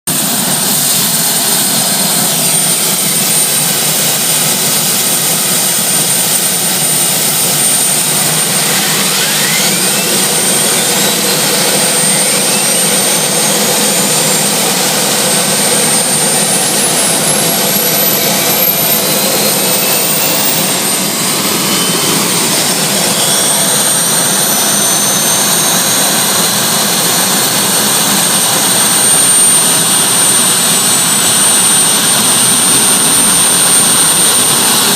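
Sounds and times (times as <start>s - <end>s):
turbine engines whining: 0.1s - 34.9s.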